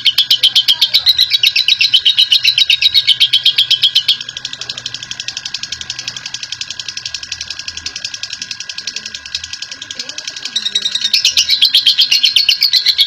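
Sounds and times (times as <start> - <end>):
bird chattering trill: 0.0 - 13.0.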